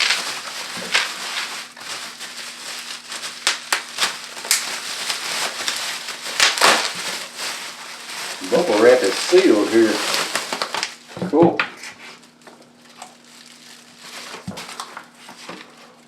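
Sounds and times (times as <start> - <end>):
bubble wrap crinkling and popping: 0.0 - 16.0.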